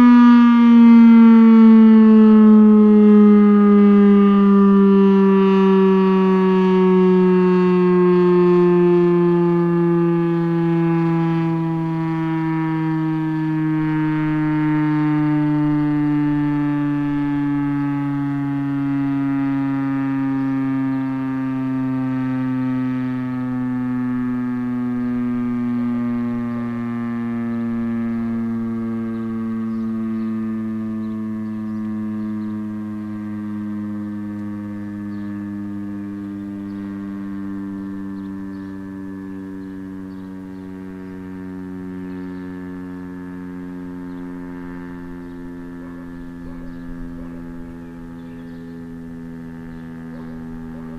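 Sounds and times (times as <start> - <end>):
warning siren winding down: 0.0 - 50.9.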